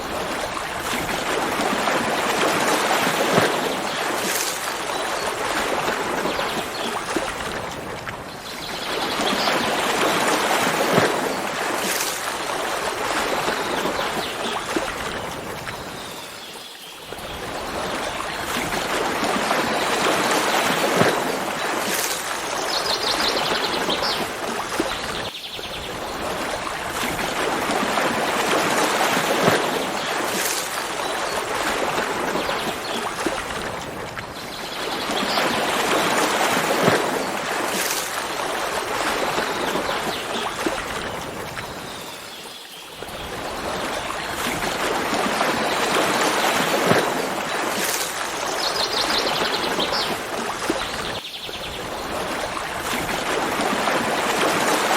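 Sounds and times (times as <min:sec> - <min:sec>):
stream of running water: 0:00.0 - 0:54.9.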